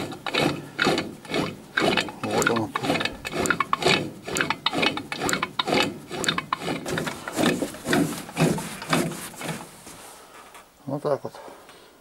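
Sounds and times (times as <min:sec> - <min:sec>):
magneto rasping when turned by hand: 0:00.0 - 0:10.2.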